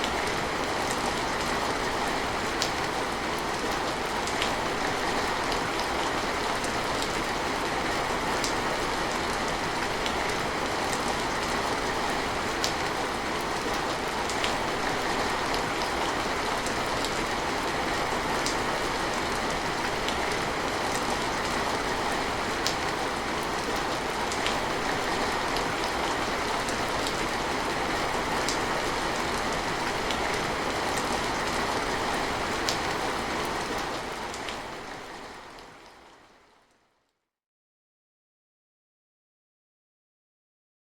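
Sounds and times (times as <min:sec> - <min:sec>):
steady rain hiss: 0:00.0 - 0:36.6.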